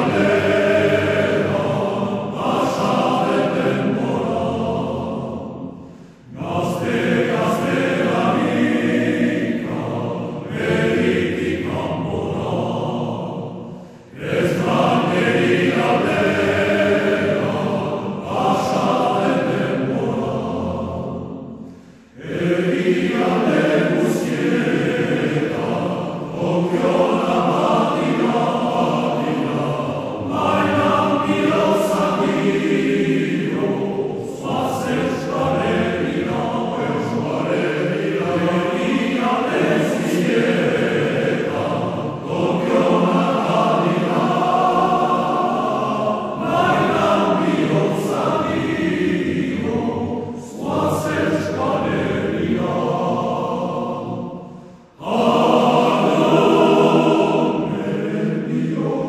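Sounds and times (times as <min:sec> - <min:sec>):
choir singing in harmony: 0:00.0 - 0:59.0.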